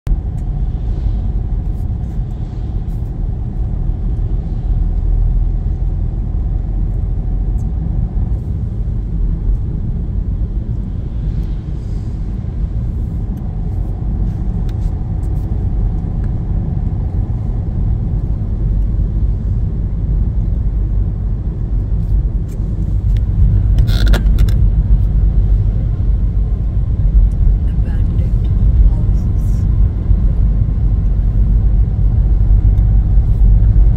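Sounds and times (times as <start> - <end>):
car engine and tyres on wet road: 0.1 - 33.9.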